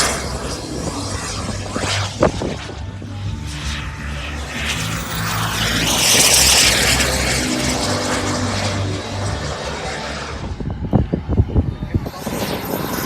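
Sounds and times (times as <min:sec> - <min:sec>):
model airplane engine flying past: 0:00.0 - 0:13.0.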